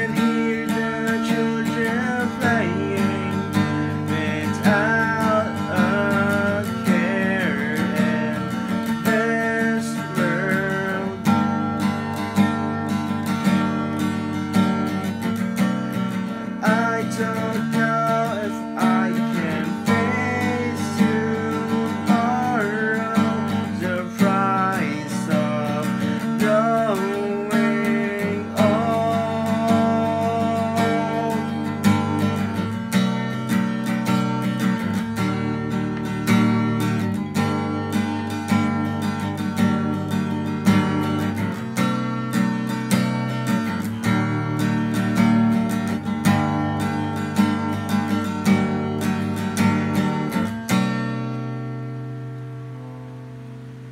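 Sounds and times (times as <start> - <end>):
acoustic guitar playing: 0.0 - 53.9.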